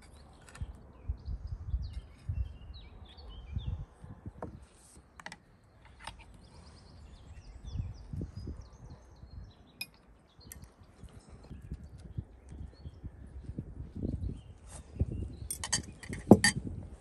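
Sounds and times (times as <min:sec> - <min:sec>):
small birds chirping: 0:00.0 - 0:04.6, 0:05.4 - 0:17.0.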